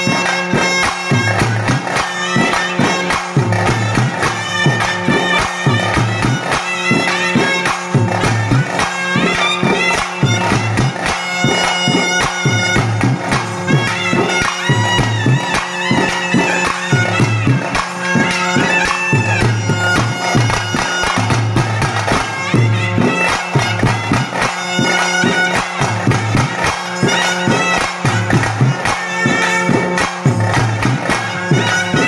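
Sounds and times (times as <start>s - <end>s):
barrel drum beaten with stick: 0.0s - 32.0s
double reed melody: 0.0s - 32.0s
hand drum: 0.0s - 32.0s.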